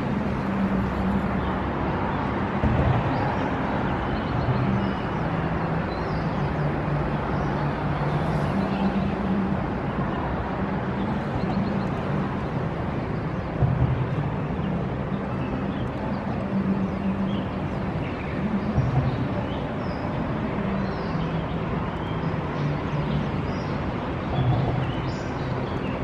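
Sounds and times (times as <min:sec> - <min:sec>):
distant traffic rumble: 0:00.0 - 0:26.0
low engine hum: 0:00.0 - 0:26.0.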